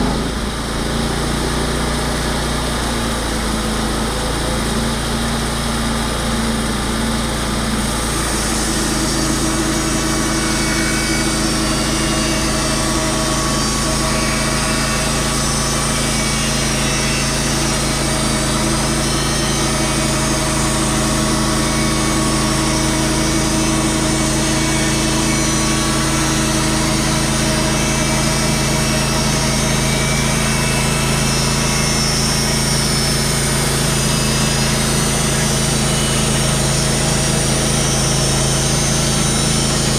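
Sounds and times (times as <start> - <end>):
saw blade cutting log: 0.0 - 39.9
small gas engine running: 0.0 - 39.9.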